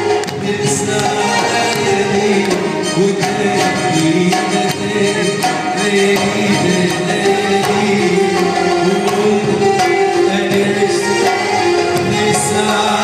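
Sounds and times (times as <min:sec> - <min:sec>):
hand drums and frame drums: 0:00.0 - 0:13.0
man singing: 0:00.0 - 0:13.0.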